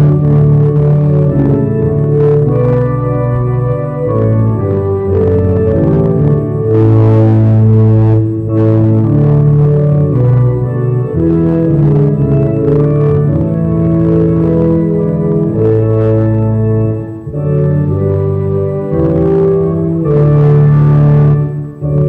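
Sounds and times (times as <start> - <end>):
organ playing sustained chords: 0.0 - 22.0.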